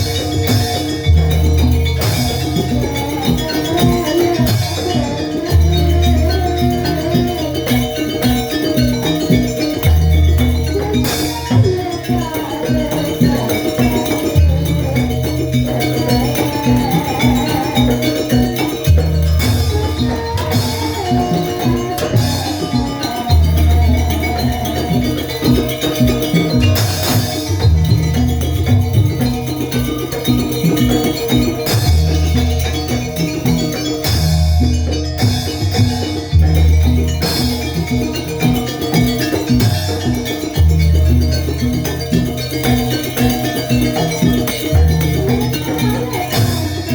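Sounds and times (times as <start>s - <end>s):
percussion ensemble playing: 0.0s - 46.9s.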